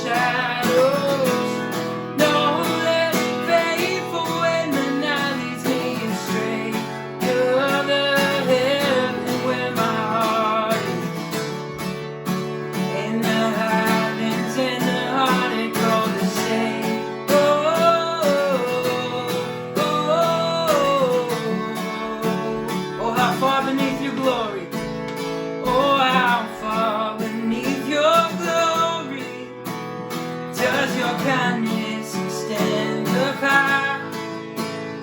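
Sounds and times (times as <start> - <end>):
worship band music: 0.0 - 29.6
acoustic guitar: 0.0 - 35.0.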